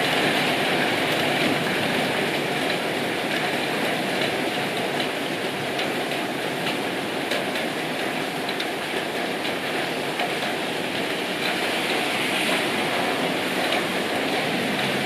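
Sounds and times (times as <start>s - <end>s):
heavy rain falling: 0.0s - 15.0s
raindrops tapping: 0.2s - 15.0s.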